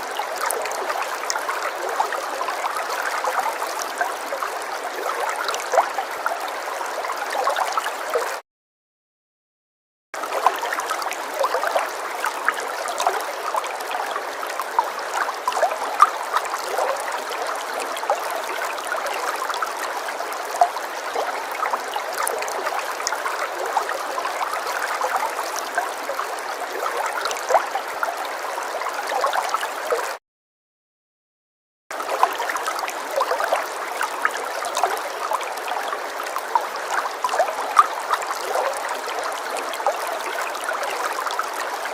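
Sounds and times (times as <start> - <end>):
stream of water trickling: 0.0 - 8.4, 10.2 - 30.2, 31.9 - 41.9.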